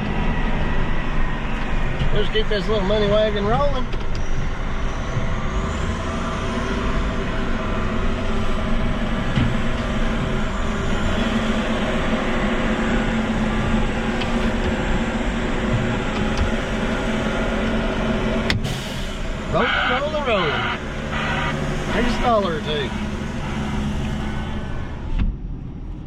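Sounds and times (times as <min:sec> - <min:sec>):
truck engine running: 0:00.0 - 0:26.0
truck moving rumble: 0:00.0 - 0:26.0.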